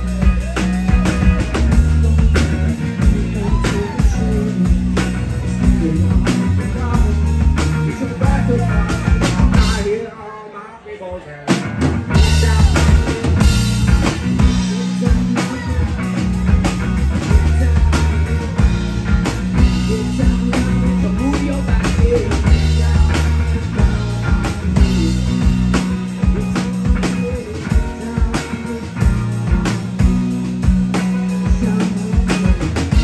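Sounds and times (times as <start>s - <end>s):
drum kit steady beat: 0.0s - 10.0s, 11.5s - 33.0s
electric bass: 0.0s - 10.1s, 11.5s - 33.0s
electric guitar: 0.0s - 10.4s, 11.5s - 33.0s.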